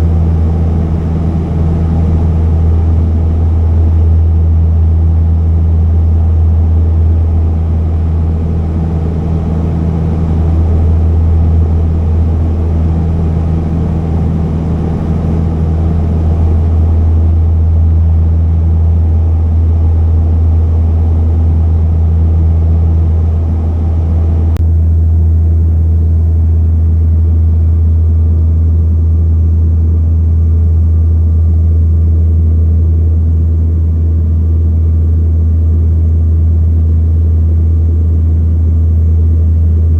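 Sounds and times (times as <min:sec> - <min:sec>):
propeller aircraft engines droning: 0:00.0 - 0:39.9.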